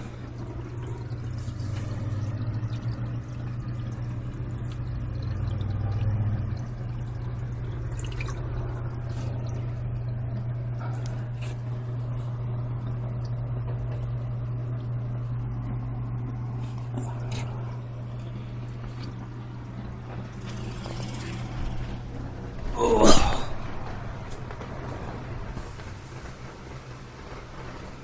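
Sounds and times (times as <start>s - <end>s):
aquarium equipment humming: 0.0s - 28.0s.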